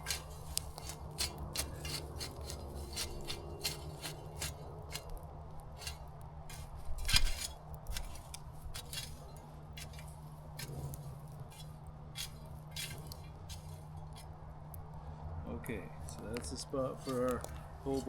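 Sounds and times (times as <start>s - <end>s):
campfire crackling and popping: 0.0s - 15.1s, 16.0s - 18.0s
low steady rumble: 0.0s - 18.0s.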